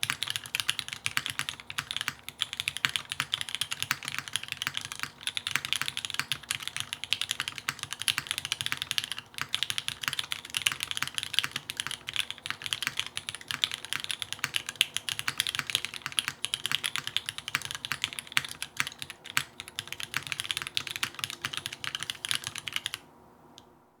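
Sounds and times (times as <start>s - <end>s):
fast typing on mechanical keyboards: 0.0s - 23.0s.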